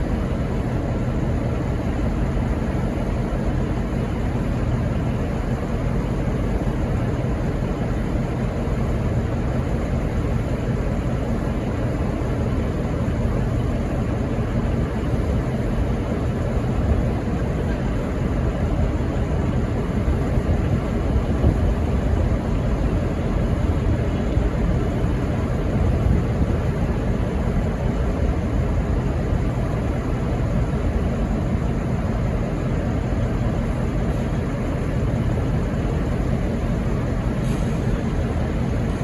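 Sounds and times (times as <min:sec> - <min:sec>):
diesel locomotive idling: 0:00.0 - 0:39.0.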